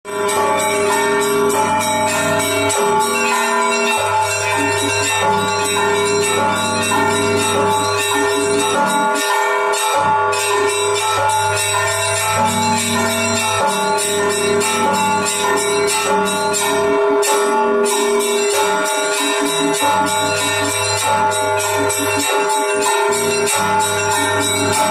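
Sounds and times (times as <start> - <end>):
deep church bells: 0.0 - 24.9
small church bells ringing: 0.0 - 24.9.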